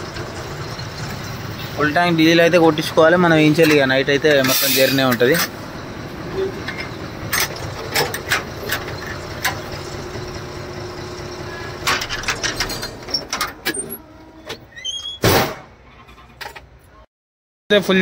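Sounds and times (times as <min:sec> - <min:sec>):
lorry engine running: 0:00.0 - 0:14.6.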